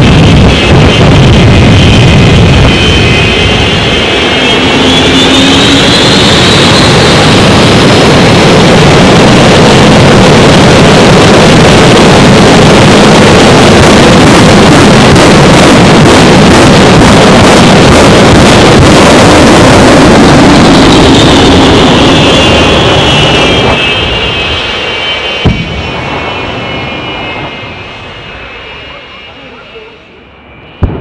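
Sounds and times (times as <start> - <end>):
jet engines running: 0.0 - 31.0
whining tones sliding down: 0.1 - 30.9.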